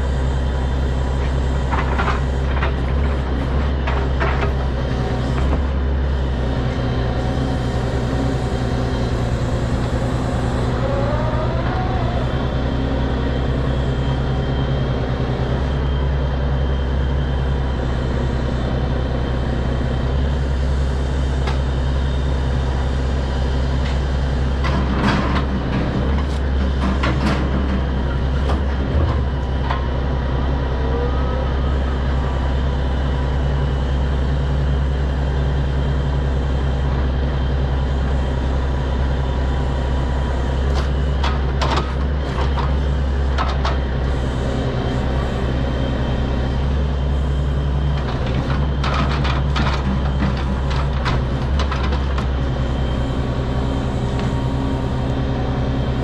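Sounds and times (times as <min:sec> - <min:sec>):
truck engine under hydraulic load: 0:00.0 - 0:56.0.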